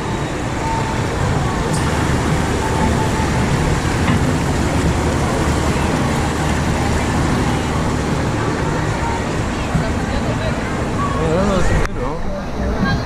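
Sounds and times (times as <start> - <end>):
rushing water of raft ride: 0.0 - 13.0.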